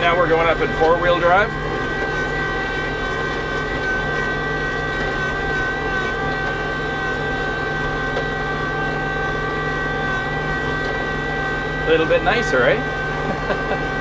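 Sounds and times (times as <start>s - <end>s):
diesel tractor engine under load: 0.0s - 14.0s
high whine: 0.0s - 14.0s.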